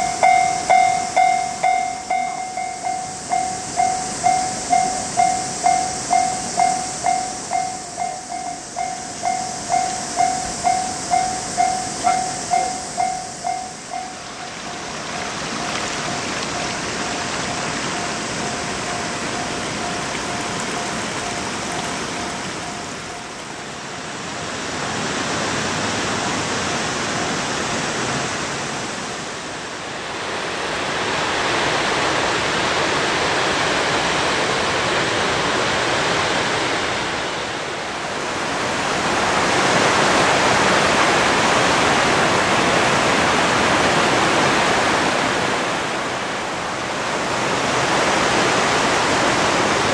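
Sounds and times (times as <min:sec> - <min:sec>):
flooded river rushing: 0:00.0 - 0:49.9.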